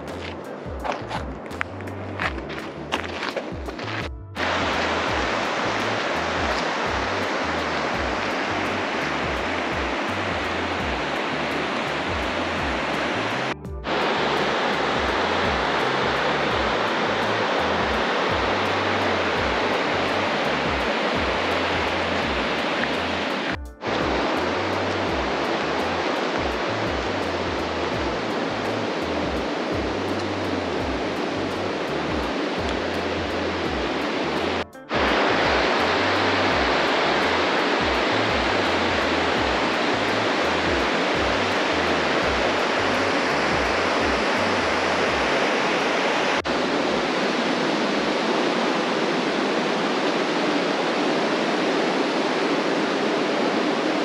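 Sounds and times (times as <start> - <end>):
waterfall roaring: 2.2 - 54.0.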